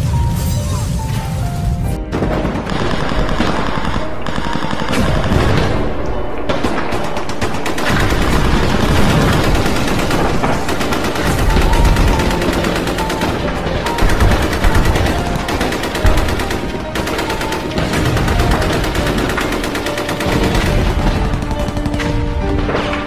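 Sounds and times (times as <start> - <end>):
machine-gun and rifle fire: 2.0 - 23.0.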